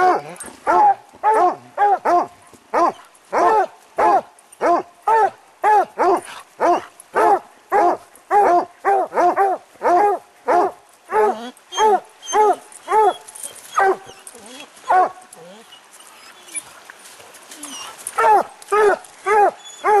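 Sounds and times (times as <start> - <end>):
hounds barking: 0.0 - 14.2, 14.8 - 15.2, 18.2 - 20.0.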